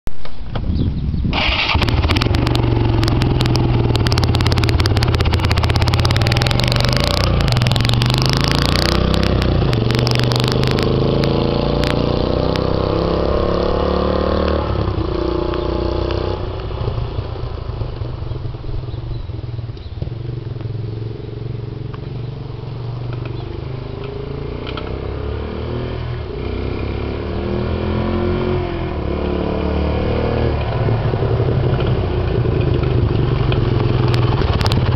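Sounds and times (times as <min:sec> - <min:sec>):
atv engine revving: 0:01.4 - 0:34.9.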